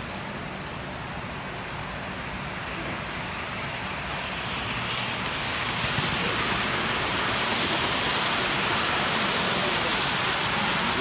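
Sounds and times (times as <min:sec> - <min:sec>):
model train wheels rumbling on track: 0:00.0 - 0:11.0.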